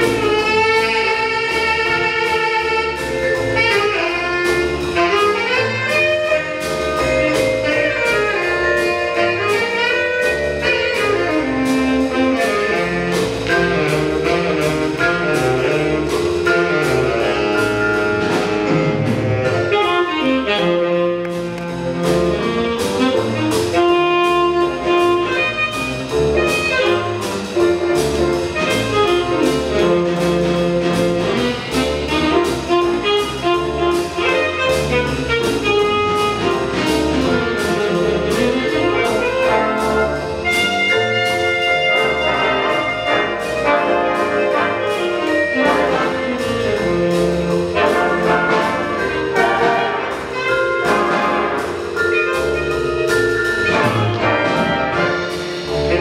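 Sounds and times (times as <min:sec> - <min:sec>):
jazz big band playing: 0:00.0 - 0:56.0
steady cymbal beat: 0:00.0 - 0:56.0.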